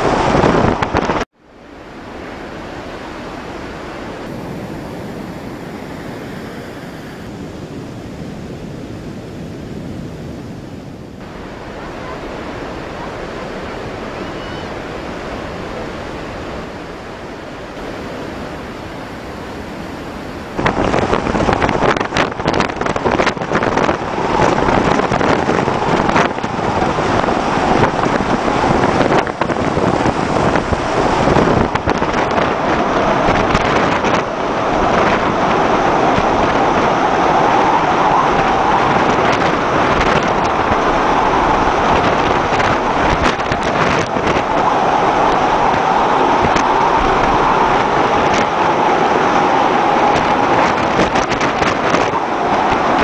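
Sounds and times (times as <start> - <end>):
sea water washing along hull: 0.0 - 53.0
storm wind buffeting microphone: 0.0 - 53.0.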